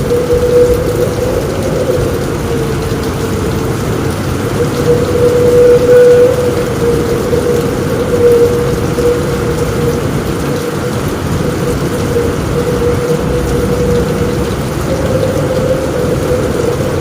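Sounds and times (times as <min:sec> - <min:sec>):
heavy rain on a roof: 0:00.0 - 0:17.0.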